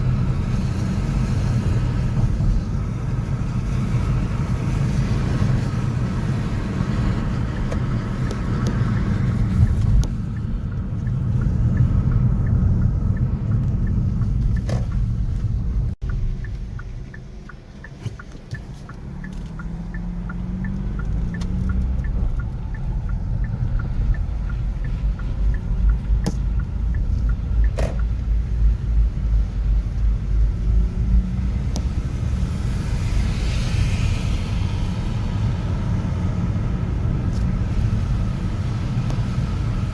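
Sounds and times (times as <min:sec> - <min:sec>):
street traffic rumble: 0:00.0 - 0:39.9.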